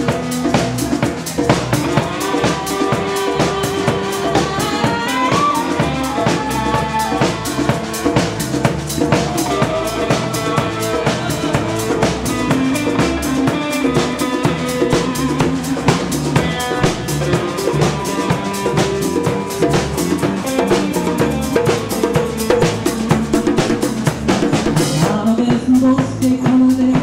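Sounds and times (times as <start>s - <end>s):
congas: 0.0s - 27.0s
drum kit: 0.0s - 27.0s
electric bass: 0.0s - 27.0s
electric guitar: 0.0s - 27.0s
live band playing: 0.0s - 27.0s.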